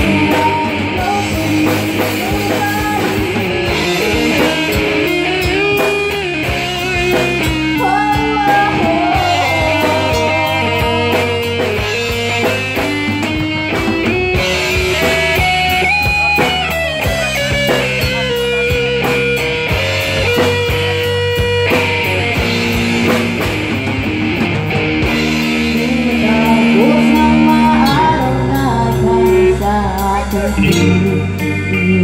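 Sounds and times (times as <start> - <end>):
drum kit: 0.0 - 32.0
electric guitar melody: 0.0 - 32.0.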